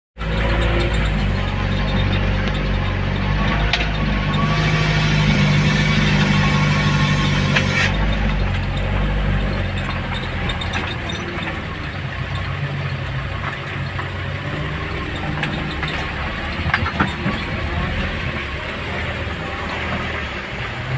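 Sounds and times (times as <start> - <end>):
vehicle engine running: 0.2 - 20.9.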